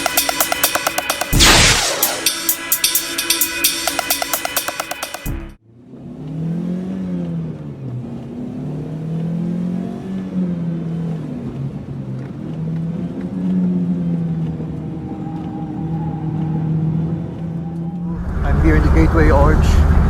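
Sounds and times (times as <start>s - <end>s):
vehicle engines speeding up: 0.0s - 20.0s.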